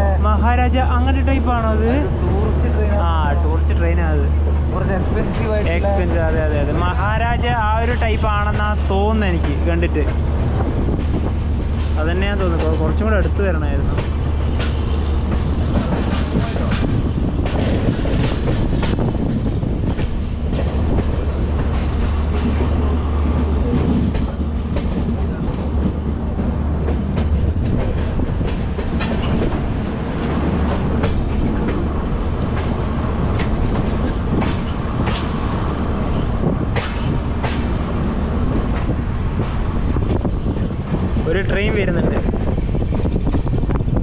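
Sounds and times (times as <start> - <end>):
train rumble and rush: 0.0 - 44.0
wheels clacking over rail joints: 7.8 - 44.0.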